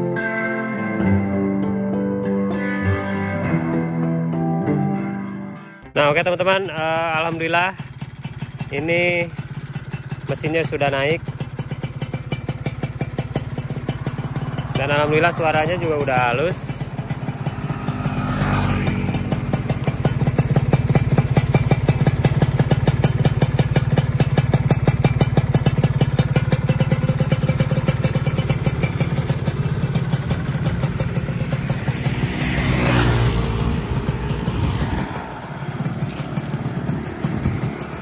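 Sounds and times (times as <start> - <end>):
two-stroke engine idling: 6.0 - 38.0.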